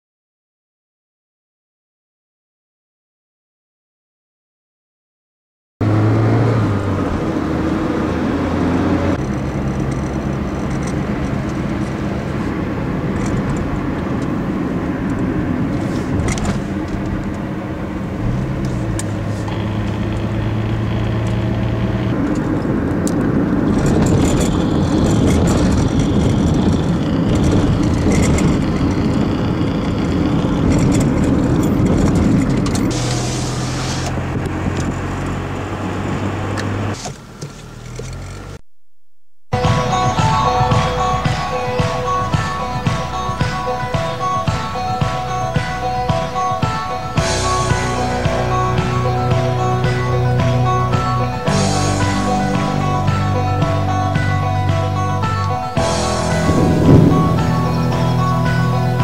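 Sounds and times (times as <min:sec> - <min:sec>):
car engine hum: 0:05.8 - 0:38.6, 0:39.5 - 0:59.0
road rumble: 0:05.8 - 0:59.0.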